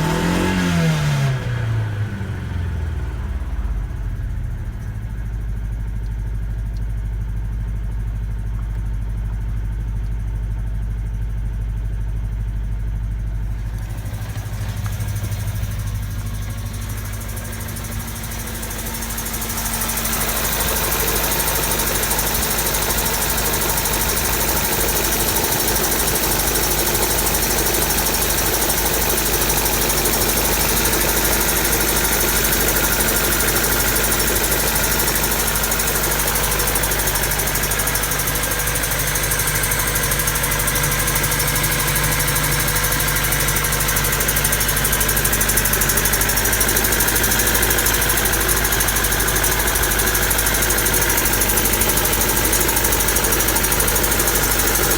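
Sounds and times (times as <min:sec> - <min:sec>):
car engine rough idle: 0:00.0 - 0:54.9.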